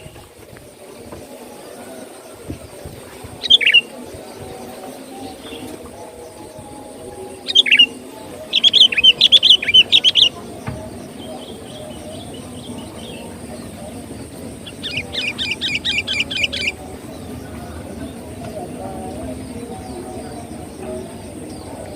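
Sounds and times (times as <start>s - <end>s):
bulbul singing: 1.4s - 21.9s.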